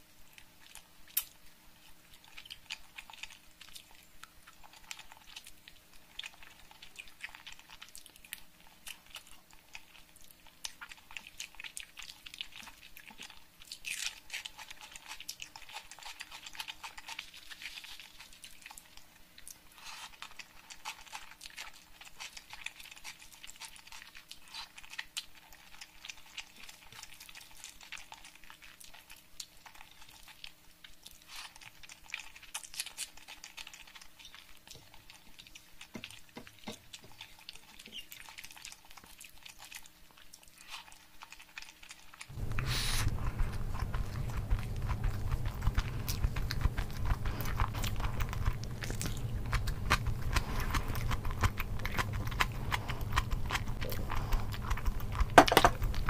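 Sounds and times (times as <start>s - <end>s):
fingers squishing sticky rice: 0.0s - 56.0s
chewing with wet mouth clicks: 0.2s - 56.0s.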